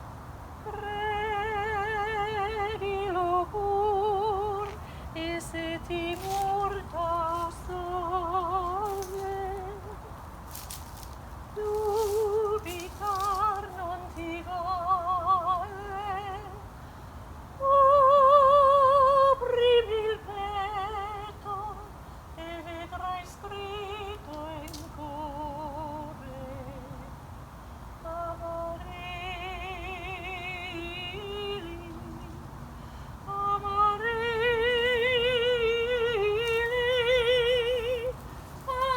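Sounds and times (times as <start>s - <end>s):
woman singing without words: 0.6s - 10.8s, 11.5s - 27.2s, 28.0s - 38.9s.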